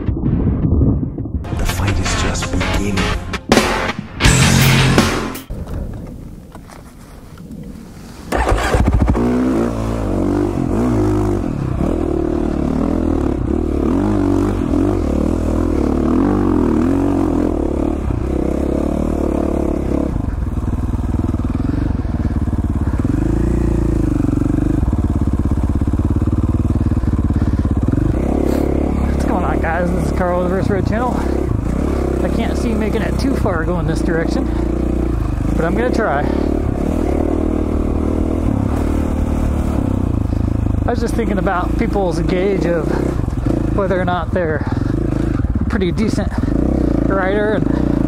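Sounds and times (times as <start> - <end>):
dirt bike engine revving: 8.3 - 48.0.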